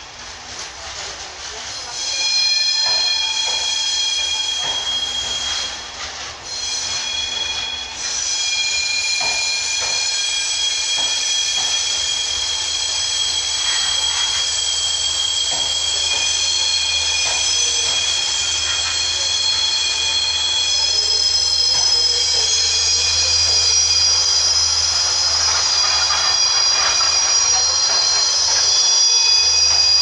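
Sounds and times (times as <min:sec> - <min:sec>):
train wheels squealing: 0:00.0 - 0:30.0.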